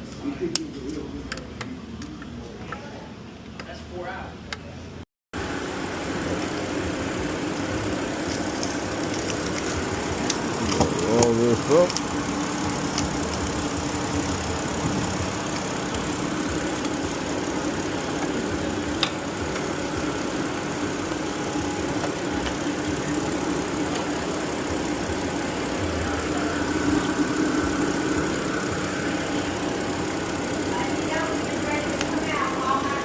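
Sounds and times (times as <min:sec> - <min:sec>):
car engine idling: 0:05.4 - 0:33.0.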